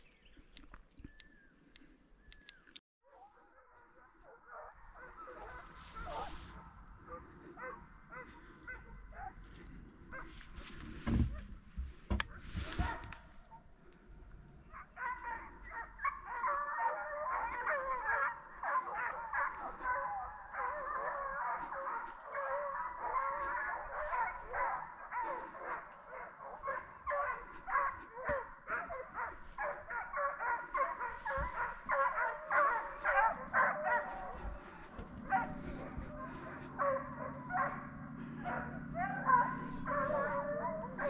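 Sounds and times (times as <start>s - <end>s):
hounds baying: 3.1s - 11.6s, 12.2s - 41.0s.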